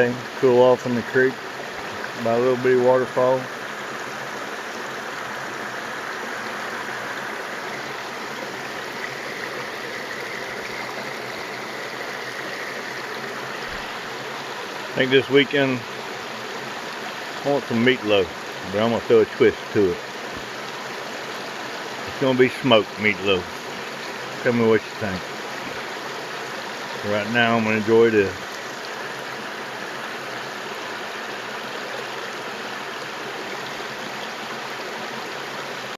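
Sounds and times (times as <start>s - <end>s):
water rushing over waterfall: 0.0s - 35.9s.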